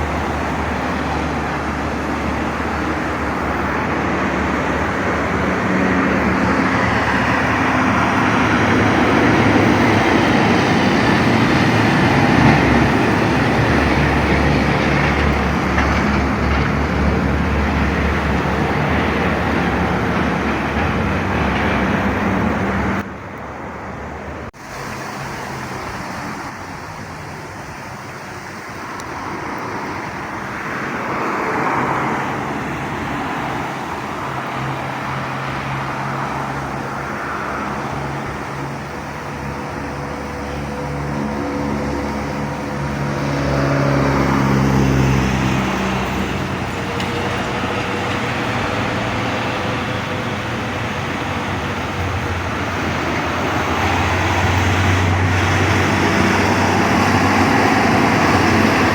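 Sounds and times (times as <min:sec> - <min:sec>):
heavy truck engines droning: 0:00.0 - 0:58.9
quieter engine: 0:00.0 - 0:58.9.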